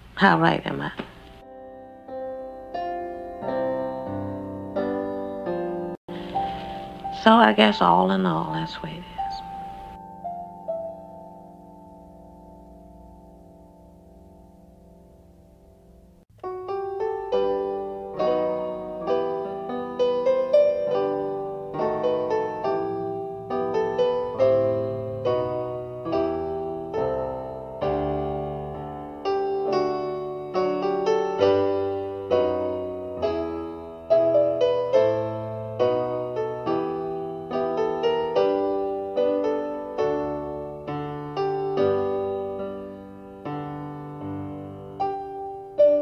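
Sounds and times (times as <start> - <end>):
held piano chord: 0.6 - 46.0.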